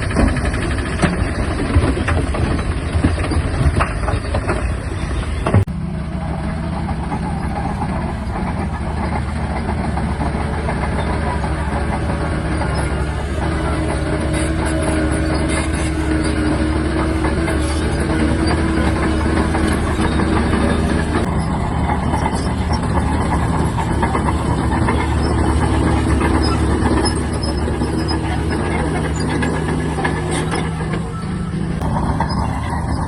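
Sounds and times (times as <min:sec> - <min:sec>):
bulldozer diesel engine running: 0:00.0 - 0:33.0
steel tracks clattering and squeaking: 0:00.0 - 0:33.0.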